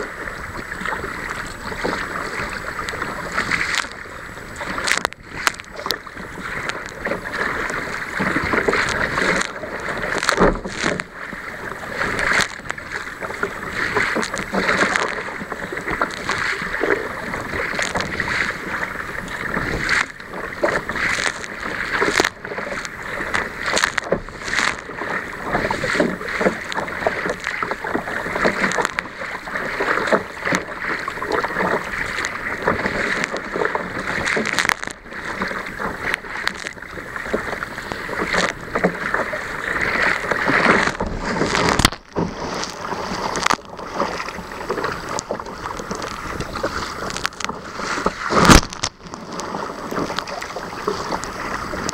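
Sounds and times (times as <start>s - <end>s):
water rushing along hull: 0.0s - 51.9s
waves breaking over kayak bow: 0.0s - 51.9s.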